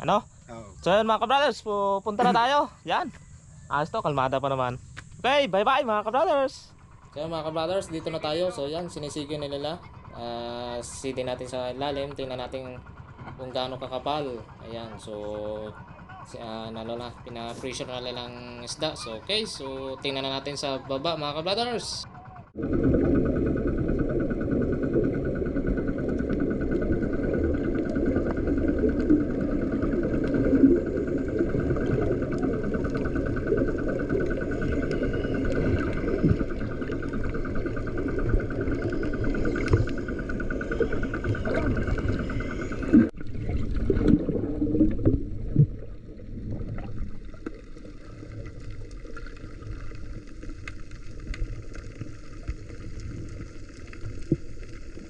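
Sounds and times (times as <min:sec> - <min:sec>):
boat engine hum underwater: 0:00.0 - 0:55.0
muffled underwater rumble: 0:00.0 - 0:55.0.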